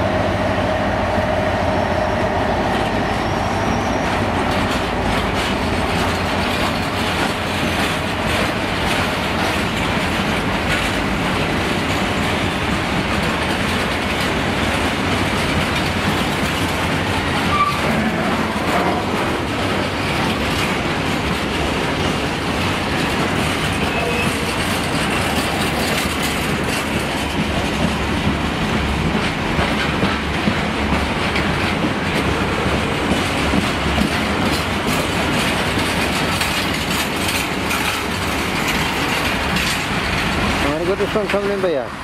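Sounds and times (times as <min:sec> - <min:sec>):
wheels clattering over rail joints: 0:04.0 - 0:42.0.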